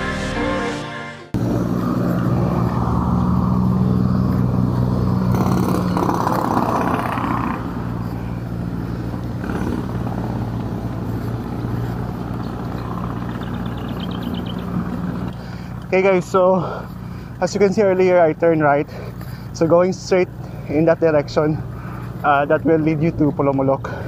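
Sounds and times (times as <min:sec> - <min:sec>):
road and wind noise: 0:01.3 - 0:24.0
vehicle engine humming: 0:01.3 - 0:24.0.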